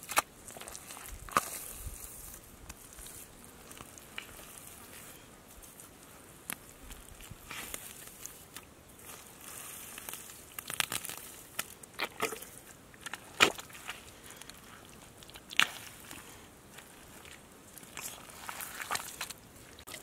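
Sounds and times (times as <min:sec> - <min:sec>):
hands digging in wet mud: 0:00.0 - 0:20.0.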